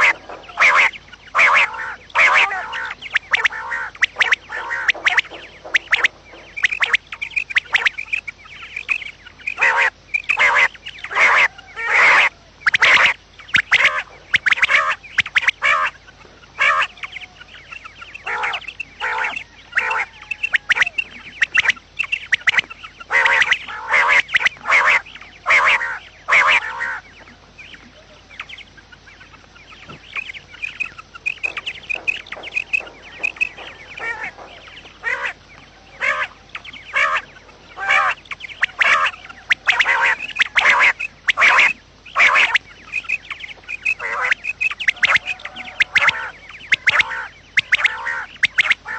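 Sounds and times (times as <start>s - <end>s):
quail calling: 0.0s - 48.9s.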